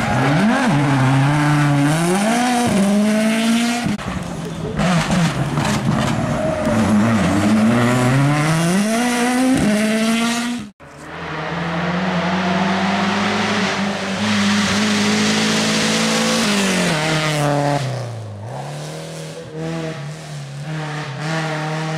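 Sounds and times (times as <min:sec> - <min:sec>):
rally car engine revving: 0:00.0 - 0:21.9.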